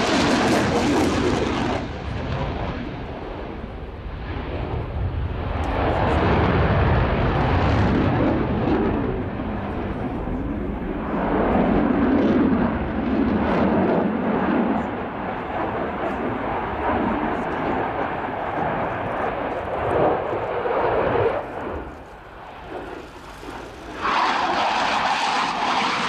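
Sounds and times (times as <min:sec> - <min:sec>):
jet engine rumble with crackle: 0:00.0 - 0:26.0.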